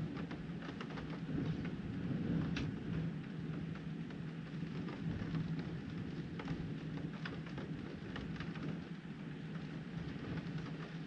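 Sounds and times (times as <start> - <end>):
rain ticking on window: 0.0 - 11.0.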